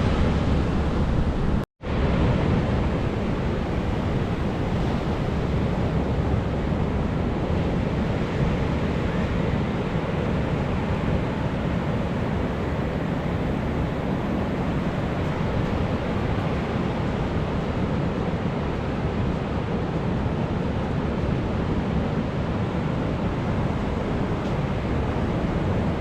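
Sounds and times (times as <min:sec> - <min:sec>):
waves breaking: 0:00.0 - 0:26.0
wind on microphone: 0:00.0 - 0:26.0.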